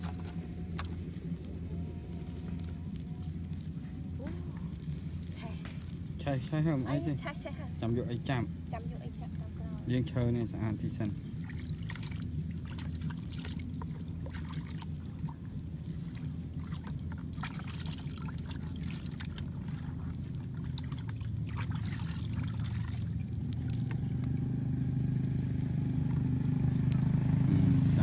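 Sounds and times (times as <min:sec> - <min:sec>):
light water sounds: 0:00.0 - 0:28.0
motor engine drone: 0:00.0 - 0:28.0.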